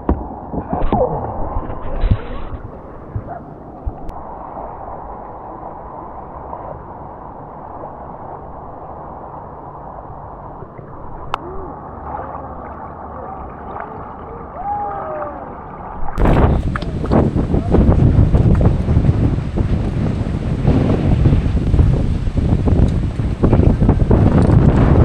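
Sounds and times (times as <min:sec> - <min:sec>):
fast river water gurgling: 0:00.0 - 0:25.0.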